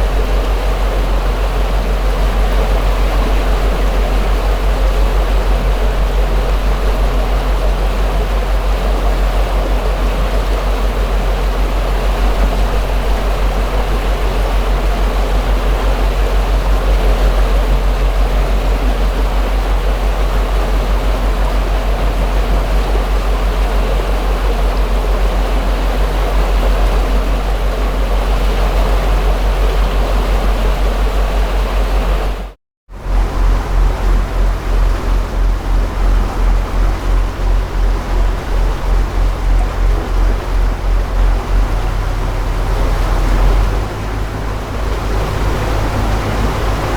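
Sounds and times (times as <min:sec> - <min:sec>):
boat engine pulsing hum: 0:00.0 - 0:46.9
water splashing against hull: 0:00.0 - 0:46.9.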